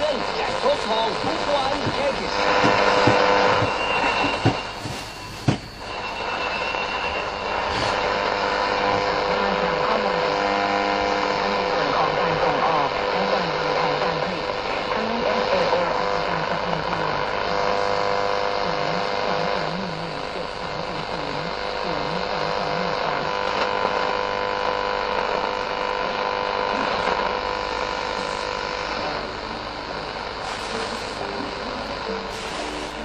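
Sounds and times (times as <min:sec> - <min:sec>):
radio buzzing hum with static: 0:00.0 - 0:33.0.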